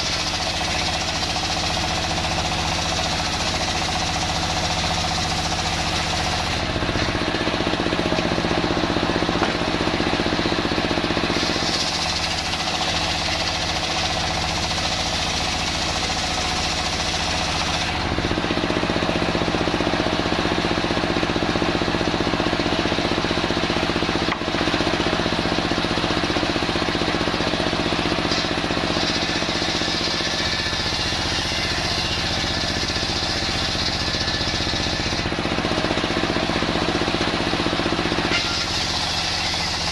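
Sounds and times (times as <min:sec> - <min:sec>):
saw blade cutting timber: 0:00.0 - 0:39.9.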